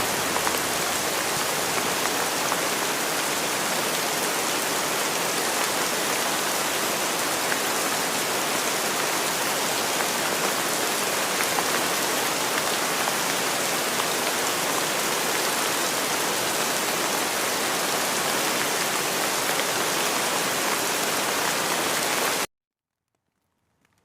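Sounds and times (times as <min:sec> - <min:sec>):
rain hiss: 0:00.0 - 0:22.4.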